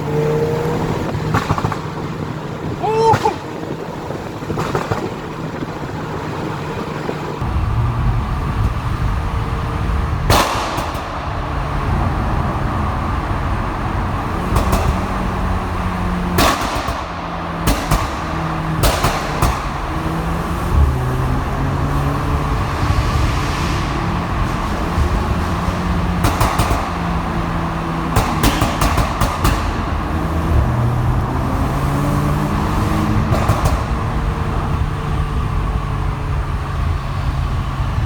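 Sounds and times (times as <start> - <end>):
car engine running: 0.0 - 38.0
sharp exhaust bangs: 0.0 - 38.0.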